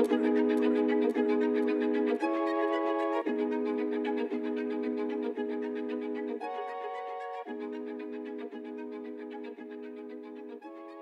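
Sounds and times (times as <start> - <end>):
sustained string chords: 0.0 - 11.0.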